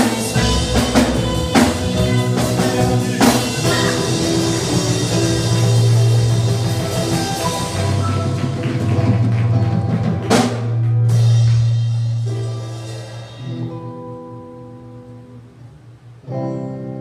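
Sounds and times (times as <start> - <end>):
worship band playing: 0.0 - 15.4.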